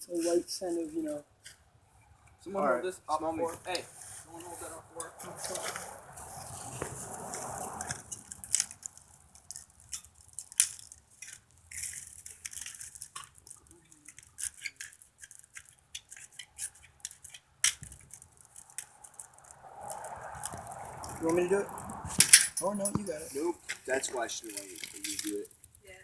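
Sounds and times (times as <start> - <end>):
plastic and cardboard crackling: 3.4 - 26.0.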